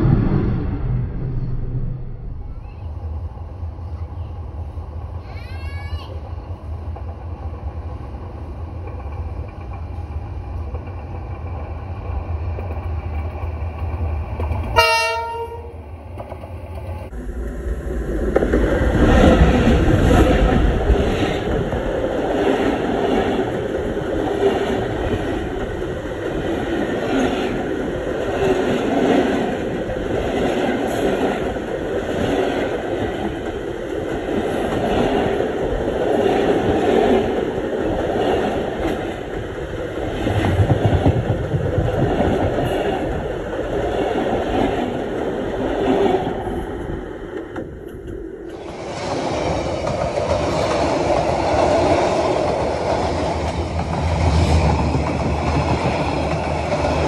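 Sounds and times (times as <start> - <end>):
locomotive rumbling overhead: 6.2 - 57.0
train wheels clattering on track: 8.6 - 17.2, 18.1 - 57.0.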